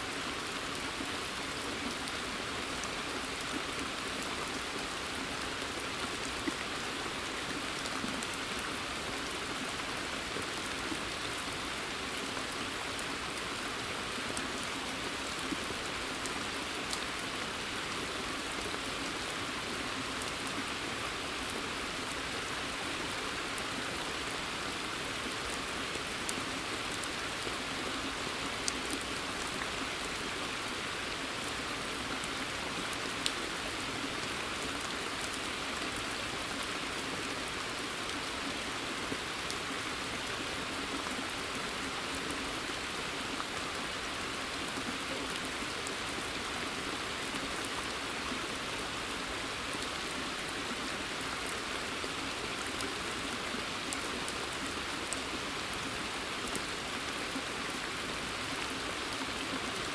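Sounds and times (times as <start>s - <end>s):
rain on water and foliage: 0.0s - 59.9s.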